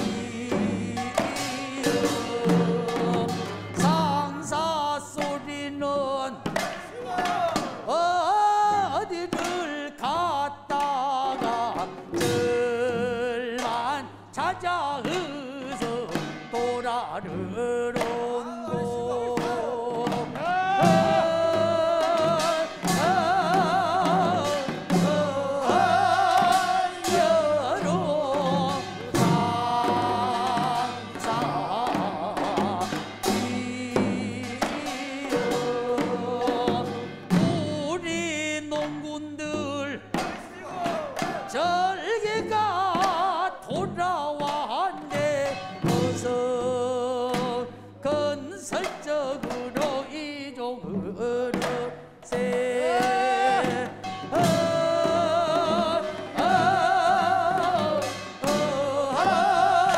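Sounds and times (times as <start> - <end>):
barrel drum strikes: 0.0 - 5.5, 8.7 - 47.8, 51.5 - 59.9
group singing with vibrato: 0.0 - 59.9.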